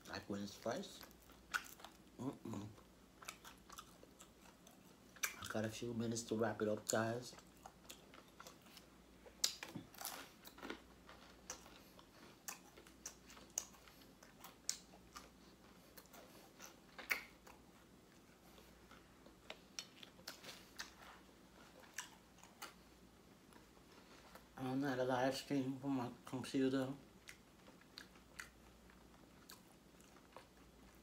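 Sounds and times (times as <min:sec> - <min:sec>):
crunchy chewing: 0:00.4 - 0:05.7, 0:06.8 - 0:24.6, 0:27.1 - 0:31.0.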